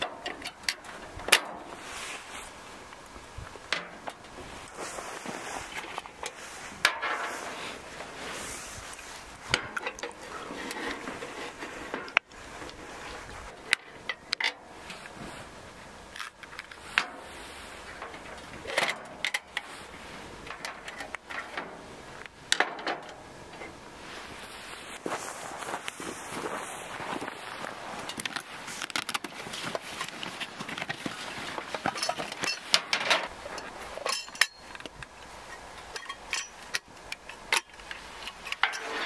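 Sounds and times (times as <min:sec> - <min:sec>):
steady background hiss: 0:00.0 - 0:39.0.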